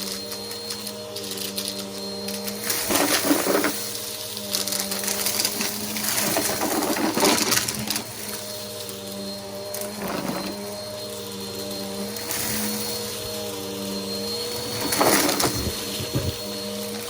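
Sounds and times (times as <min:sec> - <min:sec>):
upright vacuum running: 0:00.0 - 0:17.0.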